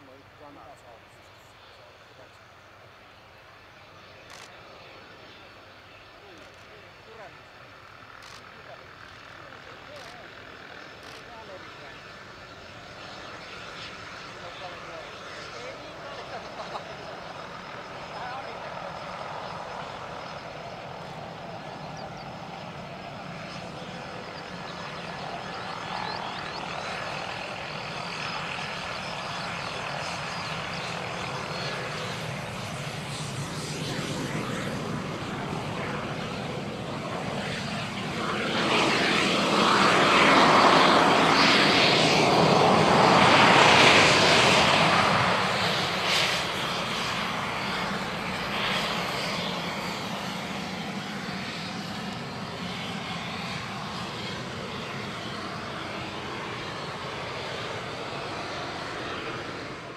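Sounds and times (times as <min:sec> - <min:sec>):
jet engine hiss and whine: 0:00.0 - 0:59.9.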